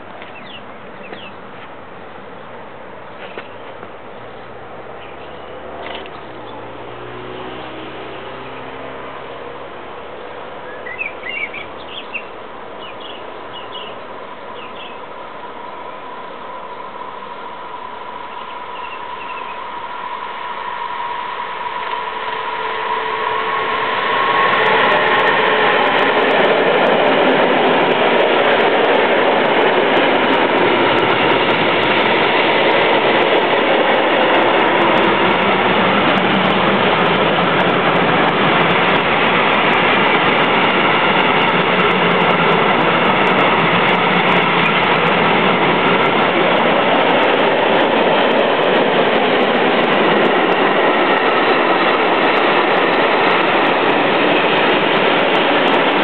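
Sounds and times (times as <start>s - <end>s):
locomotive whine: 0.0s - 56.0s
train wheels on rail: 0.0s - 56.0s.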